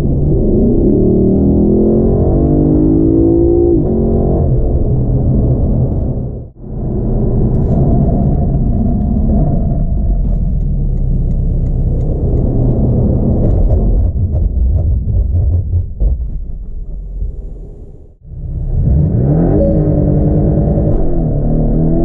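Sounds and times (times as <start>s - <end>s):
sports car engine rumbling: 0.0s - 22.0s.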